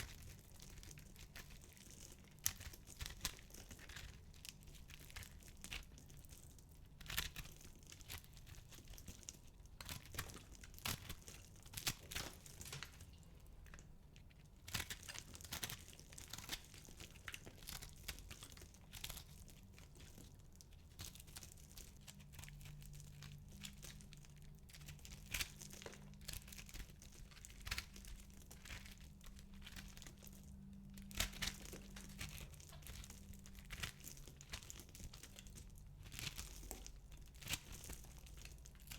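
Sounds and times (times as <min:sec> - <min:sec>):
soap balls crunching and crackling: 0:00.0 - 0:38.9.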